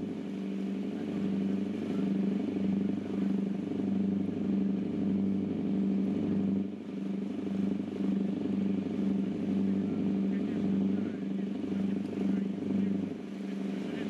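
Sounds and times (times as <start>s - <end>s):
boat engine pulsing drone: 0.0s - 14.0s.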